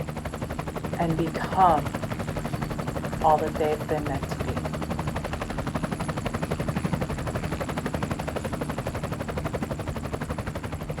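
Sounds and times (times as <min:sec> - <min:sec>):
helicopter rotor blades chopping: 0:00.0 - 0:11.0.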